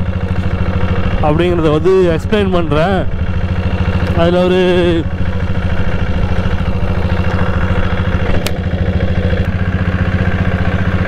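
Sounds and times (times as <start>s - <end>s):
motorcycle diesel engine running: 0.0s - 11.0s.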